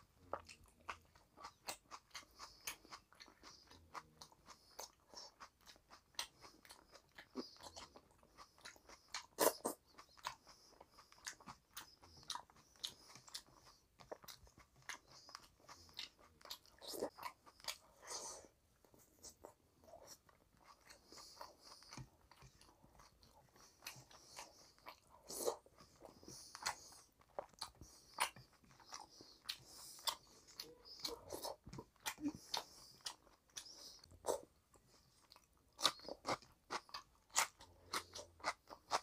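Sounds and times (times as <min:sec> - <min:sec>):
man chewing food: 0:00.0 - 0:39.0.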